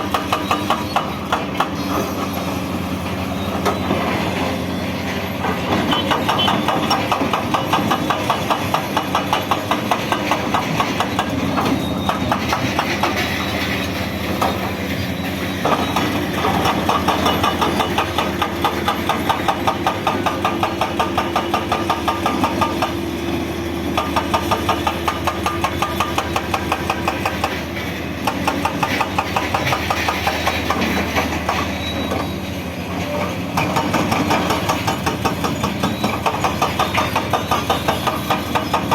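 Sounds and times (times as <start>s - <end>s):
hydraulic breaker hammer pounding: 0.0s - 2.6s, 5.1s - 32.3s, 33.1s - 38.9s
excavator diesel engine running: 0.0s - 38.9s.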